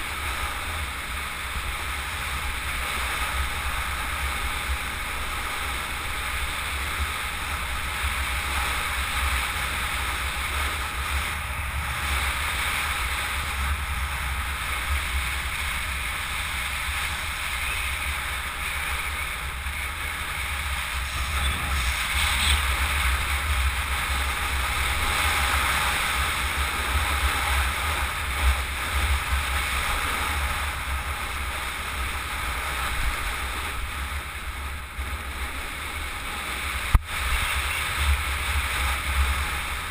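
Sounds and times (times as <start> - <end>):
tyre and road noise: 0.0 - 39.9
wind buffeting microphone: 0.1 - 39.9.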